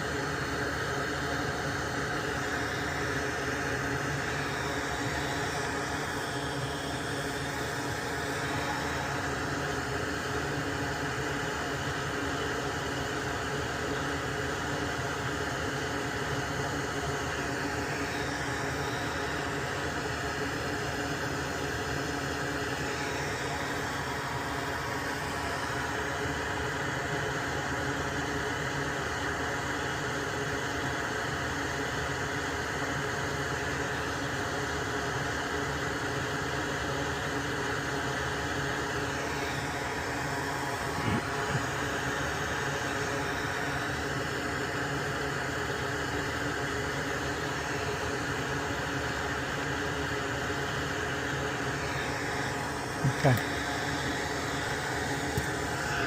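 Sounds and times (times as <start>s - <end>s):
extractor fan whirring: 0.0s - 56.0s
faint hum: 0.0s - 56.0s.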